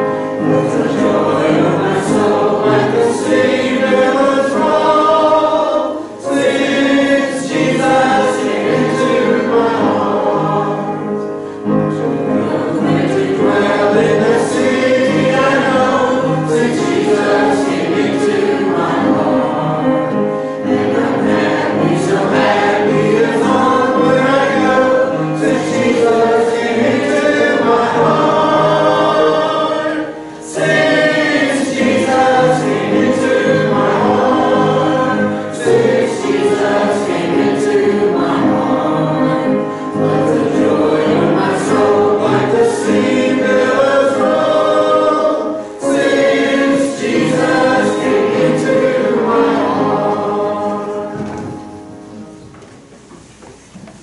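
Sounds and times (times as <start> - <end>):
congregation singing a hymn: 0.0 - 53.2.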